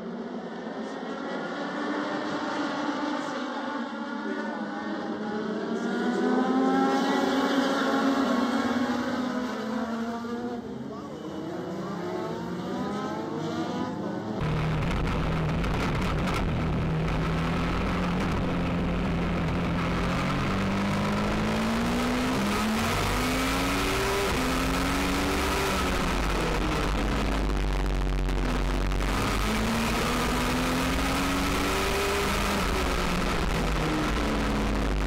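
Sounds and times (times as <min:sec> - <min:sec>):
race car engine at speed: 0:00.0 - 0:35.0.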